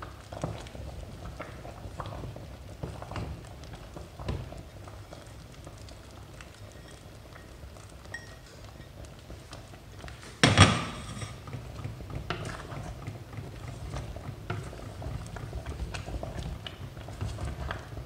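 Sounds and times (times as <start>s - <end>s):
wooden spoon stirring in metal pot: 0.0s - 18.0s.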